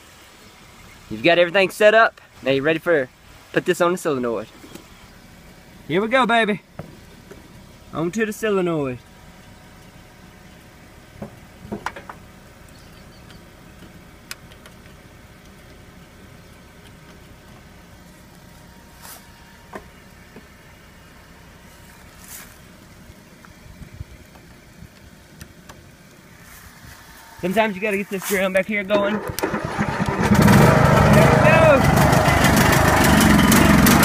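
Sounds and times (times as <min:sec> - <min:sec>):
car engine idling: 0:00.2 - 0:34.0.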